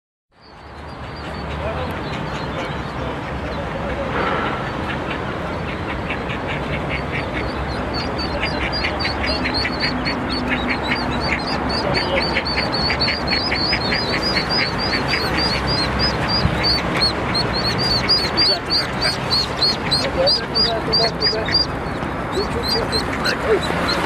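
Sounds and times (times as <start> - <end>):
road traffic noise: 0.3 - 24.0
ducklings peeping: 0.4 - 24.0.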